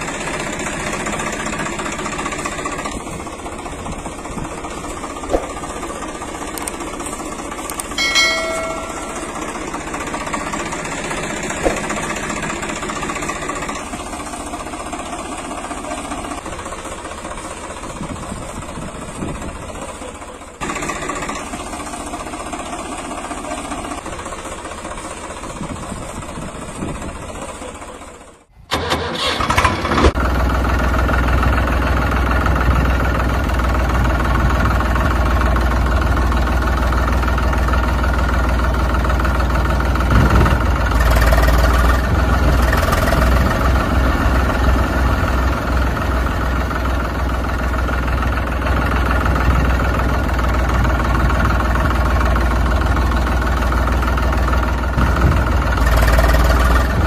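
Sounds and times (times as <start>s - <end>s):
vehicle engine running: 0.0s - 28.5s, 30.0s - 57.0s.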